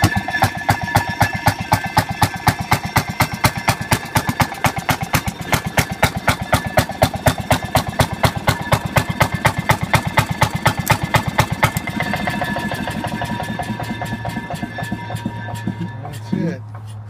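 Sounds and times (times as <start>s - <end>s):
railroad motorcar engine idling: 0.0s - 17.0s.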